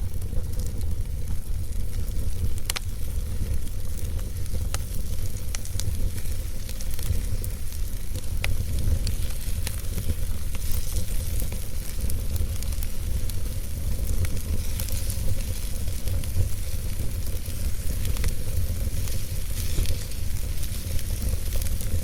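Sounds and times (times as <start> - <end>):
campfire crackling: 0.0 - 22.0
steady low rumble: 0.0 - 22.0.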